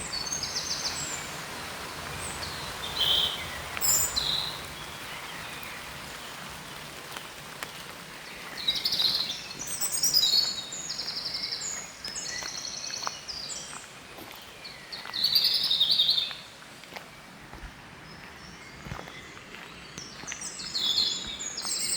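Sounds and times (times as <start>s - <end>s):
songbirds singing: 0.0s - 6.7s, 7.7s - 21.9s
outdoor background noise: 0.0s - 21.9s.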